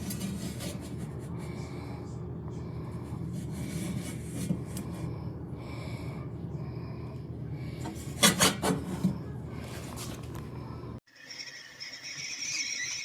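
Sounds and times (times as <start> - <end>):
kettle heating water: 0.0 - 11.0.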